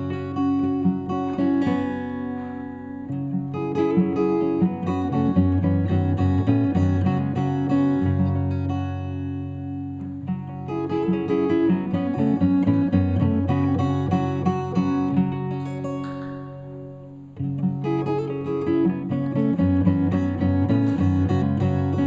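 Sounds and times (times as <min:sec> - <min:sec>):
plucked notes ringing: 0:00.0 - 0:22.0.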